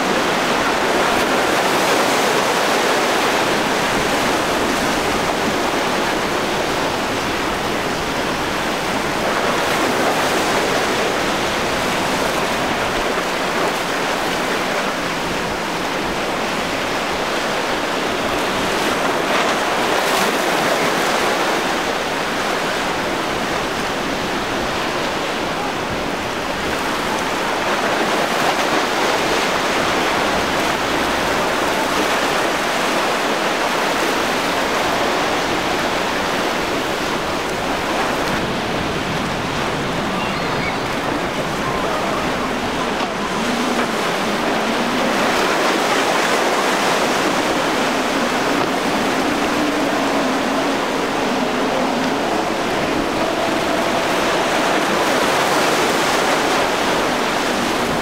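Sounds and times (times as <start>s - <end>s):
surf and breaking waves: 0.0s - 58.0s.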